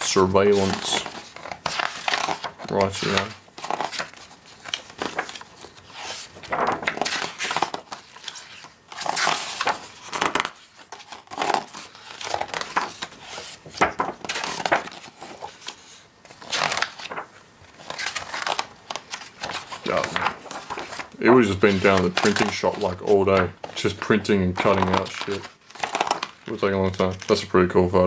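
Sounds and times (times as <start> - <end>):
book pages turning: 0.0 - 27.8.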